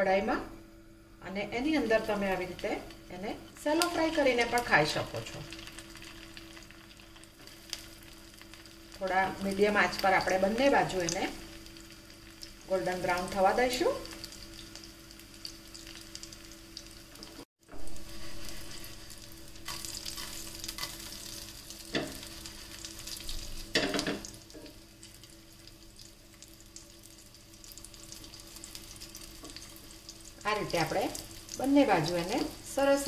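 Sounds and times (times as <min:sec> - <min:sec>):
patties sizzling in a pan: 0:01.7 - 0:33.0.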